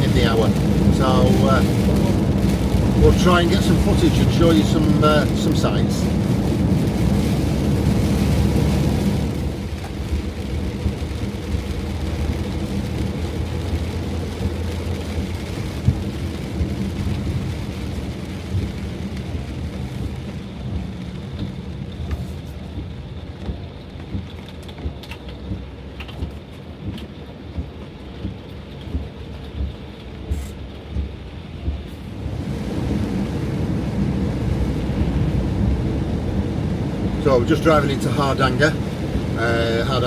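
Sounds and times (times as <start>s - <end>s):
rain hissing on bodywork: 0.0s - 40.0s
raindrops tapping on van: 0.0s - 40.0s
van engine and road drone: 0.0s - 40.0s.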